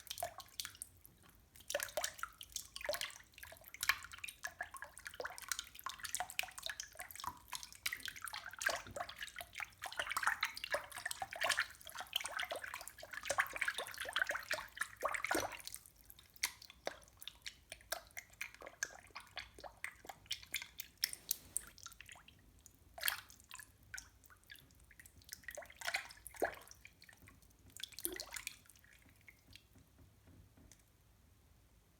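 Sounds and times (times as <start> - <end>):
water dripping and splashing: 0.0 - 30.9.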